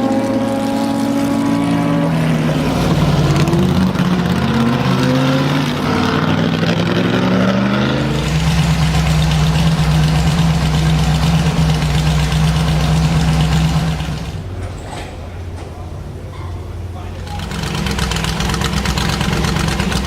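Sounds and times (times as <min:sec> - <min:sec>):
car exhaust under acceleration: 0:00.0 - 0:14.5, 0:17.3 - 0:20.0.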